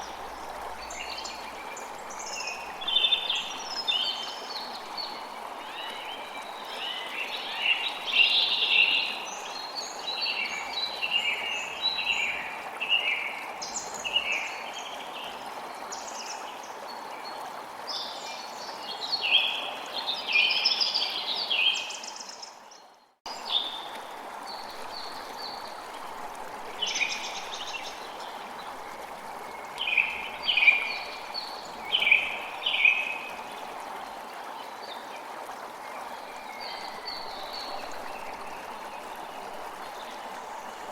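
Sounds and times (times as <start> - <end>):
stream of running water: 0.0 - 40.9.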